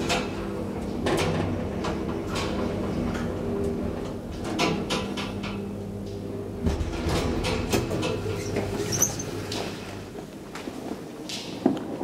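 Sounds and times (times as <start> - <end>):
elevator clicks and rattles: 0.0 - 9.8
elevator hum: 0.0 - 11.2.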